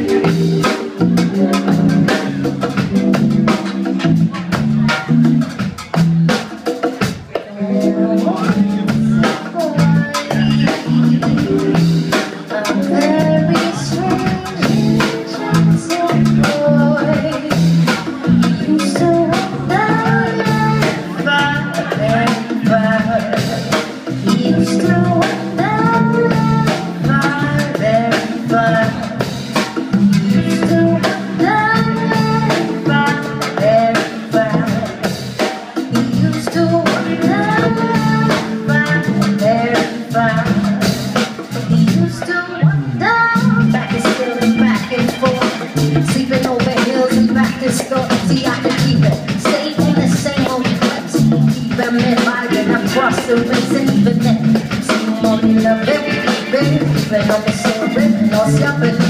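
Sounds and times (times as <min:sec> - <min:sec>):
bass line: 0:00.0 - 0:59.0
drum kit beat: 0:00.0 - 0:59.0.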